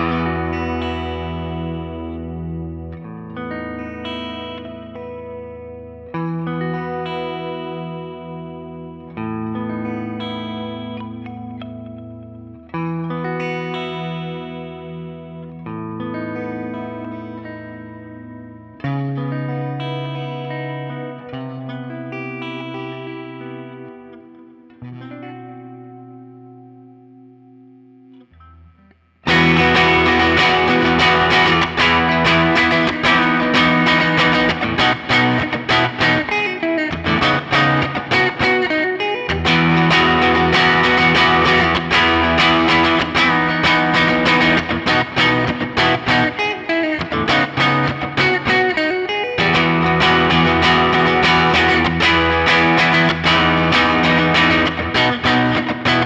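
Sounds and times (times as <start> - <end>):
electric guitar ringing chords: 0.0 - 56.0.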